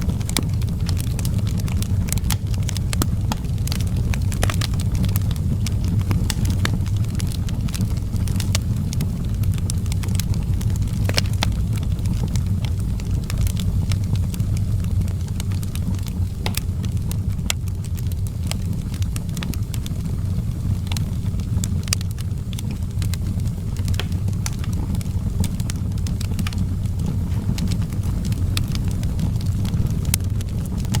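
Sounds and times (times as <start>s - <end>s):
fire crackling: 0.0s - 31.0s.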